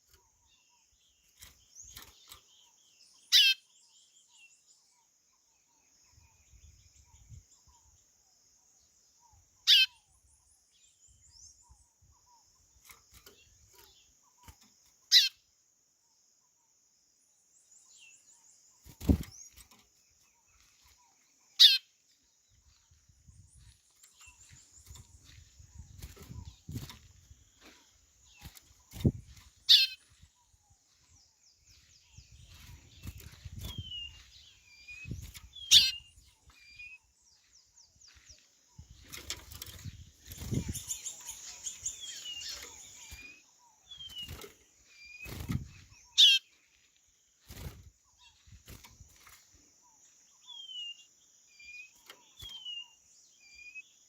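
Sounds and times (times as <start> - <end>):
faint high bird chirping: 0.0 - 54.0.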